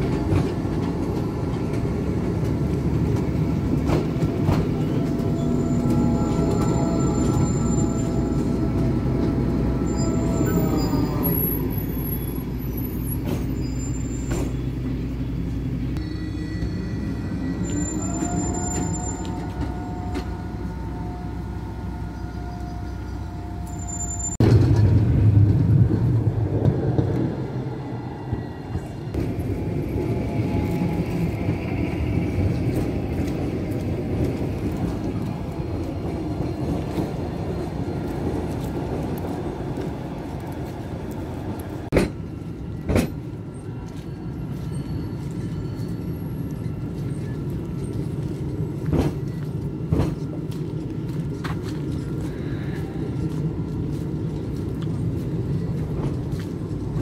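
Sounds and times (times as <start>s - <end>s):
tram rumbling on rails: 0.0s - 57.0s
tram whine: 0.0s - 57.0s.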